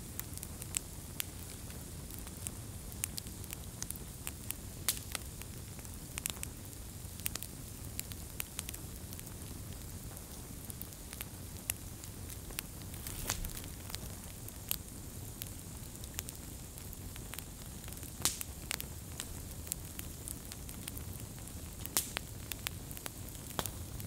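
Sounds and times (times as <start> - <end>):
low rumble and hiss: 0.0 - 24.0
wood fire crackling: 0.0 - 24.0.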